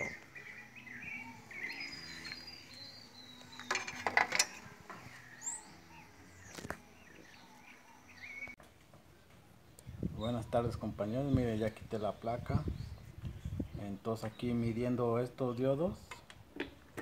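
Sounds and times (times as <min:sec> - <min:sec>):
birds chirping: 0:00.0 - 0:16.8.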